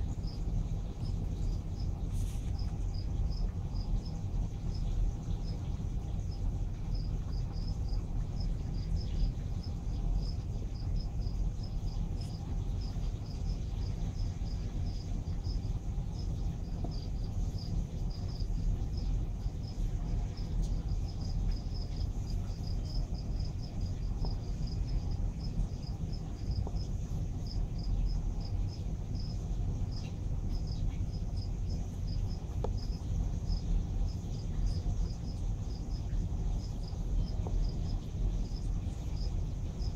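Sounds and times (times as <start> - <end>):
steady low rumble: 0.0 - 39.9
cricket chirping: 0.1 - 39.9.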